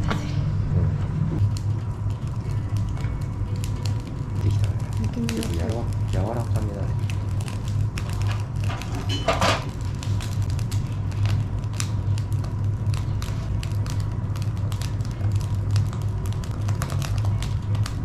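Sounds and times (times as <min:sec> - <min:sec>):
campfire crackling: 0:00.0 - 0:18.0
steady low hum: 0:00.0 - 0:18.0.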